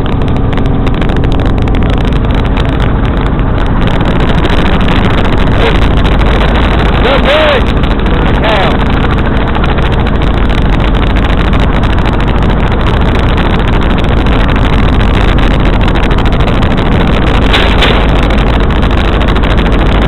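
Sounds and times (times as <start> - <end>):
wind on microphone: 0.0 - 20.0
helicopter engine and rotor: 0.2 - 19.4.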